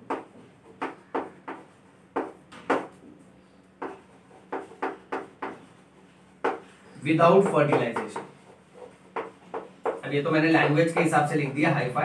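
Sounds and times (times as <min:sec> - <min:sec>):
chalk tapping and scratching: 0:00.0 - 0:12.0.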